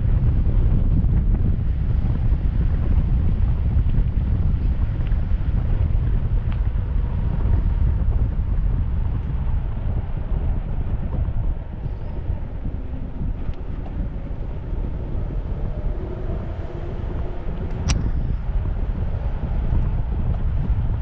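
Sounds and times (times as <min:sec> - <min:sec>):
wind buffeting a microphone: 0:00.0 - 0:21.0.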